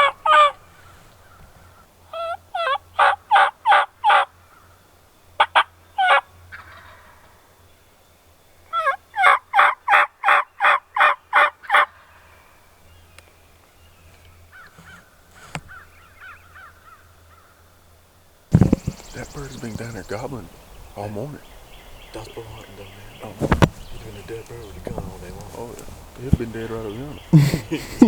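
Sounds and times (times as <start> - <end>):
wild turkey yelping: 0.0 - 4.8, 5.4 - 7.6, 8.6 - 12.4, 14.4 - 17.6, 18.5 - 27.5.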